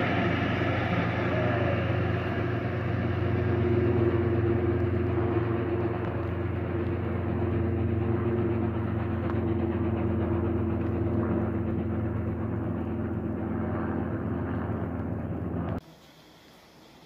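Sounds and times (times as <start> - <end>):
train engine droning: 0.0 - 17.0.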